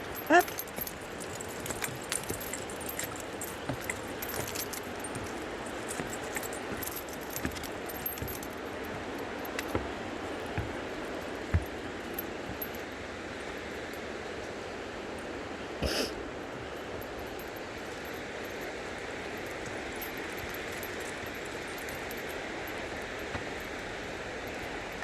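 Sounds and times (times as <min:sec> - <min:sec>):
light metallic jingling: 0:00.0 - 0:25.0.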